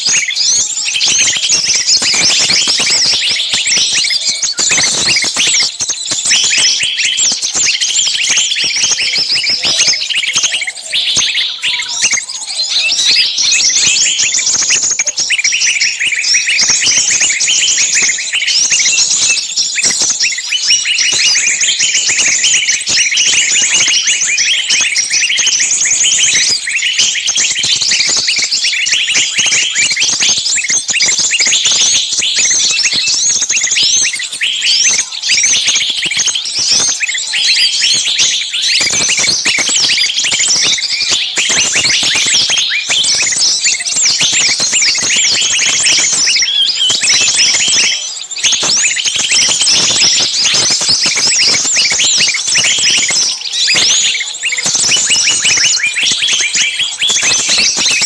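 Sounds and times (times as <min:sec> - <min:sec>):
small birds chirping chorus: 0:00.0 - 0:58.0.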